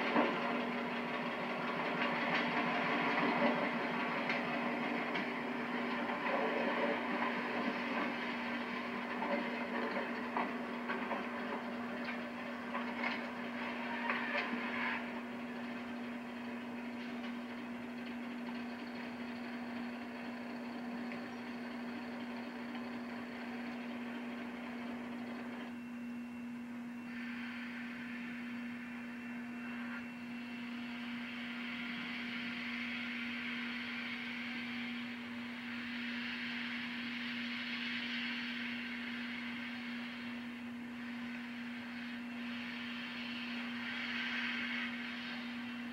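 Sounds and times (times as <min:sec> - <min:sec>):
steam locomotive venting steam: 0:00.0 - 0:25.7, 0:26.8 - 0:45.9
muffled locomotive: 0:00.0 - 0:45.9
steady electrical hum: 0:00.0 - 0:45.9.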